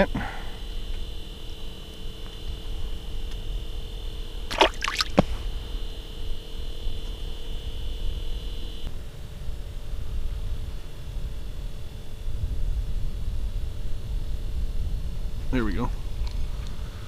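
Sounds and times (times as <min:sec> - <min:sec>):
faint high whine: 0:00.0 - 0:17.0
wind rumbling on microphone: 0:00.5 - 0:17.0.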